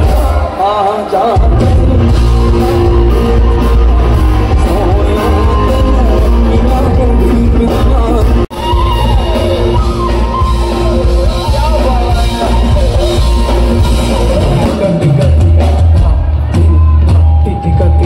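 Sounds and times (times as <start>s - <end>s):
amplified singing: 0.0s - 18.0s
live concert music: 0.0s - 18.0s.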